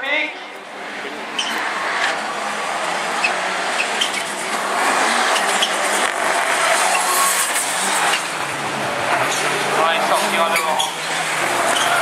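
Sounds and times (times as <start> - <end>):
race car engine driving by: 0.4 - 12.0
tyre and track noise: 0.5 - 12.0.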